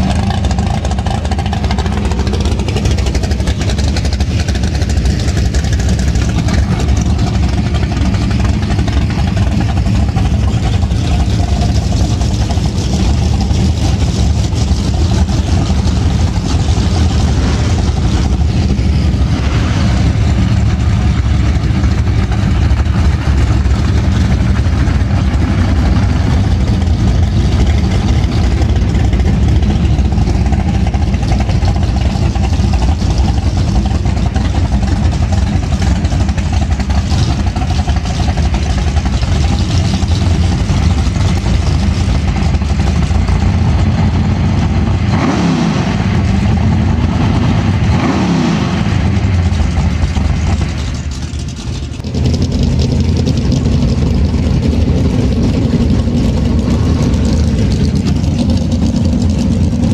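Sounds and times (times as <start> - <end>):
car engines running: 0.0 - 59.9.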